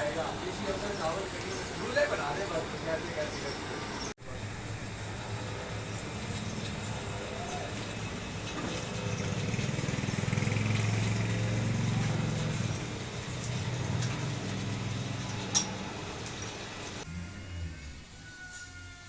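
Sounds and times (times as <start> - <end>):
machine humming: 3.7 - 19.0.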